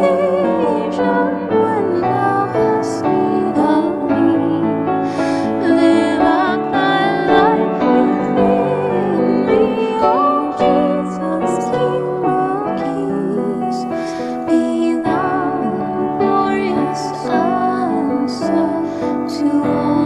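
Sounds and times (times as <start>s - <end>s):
piano accompaniment: 0.0s - 20.0s
man and woman singing hymn: 1.9s - 18.8s.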